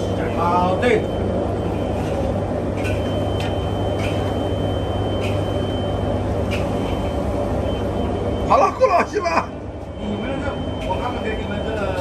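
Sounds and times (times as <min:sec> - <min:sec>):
low mechanical hum and rumble: 0:00.0 - 0:12.0
thin high whine: 0:00.0 - 0:12.0.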